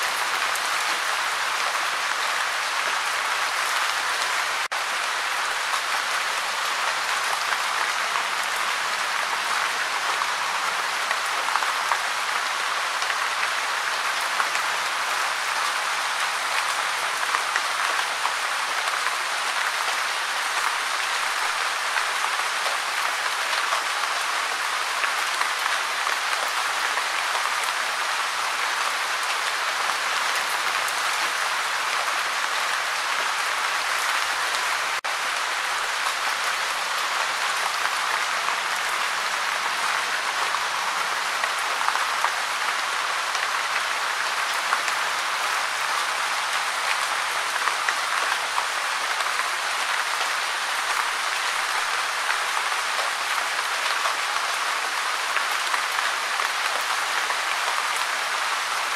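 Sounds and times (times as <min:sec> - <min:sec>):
gentle rain falling: 0:00.0 - 0:58.9.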